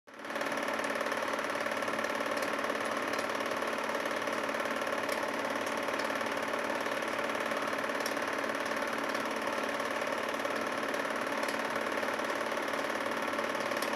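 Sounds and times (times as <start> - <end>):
film projector whirring: 0.1 - 13.9.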